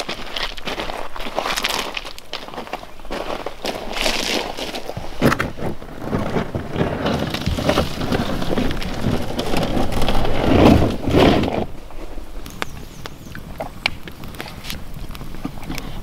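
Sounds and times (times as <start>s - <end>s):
boots crunching on gravel: 0.0s - 13.2s
canoe hull scraping on gravel: 0.0s - 16.0s.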